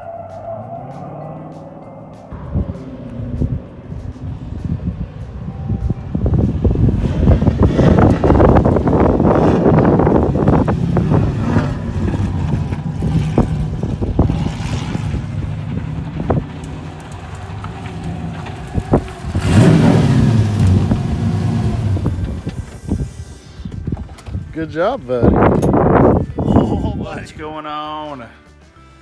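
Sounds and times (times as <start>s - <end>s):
car engine revving: 0.0s - 27.3s.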